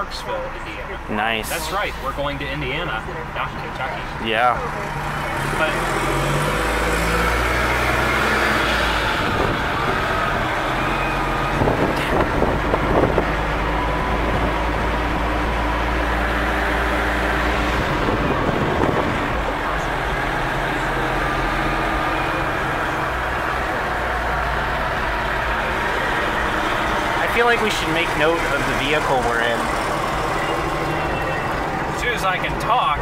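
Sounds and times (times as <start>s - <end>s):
car road and engine noise: 0.0s - 33.0s.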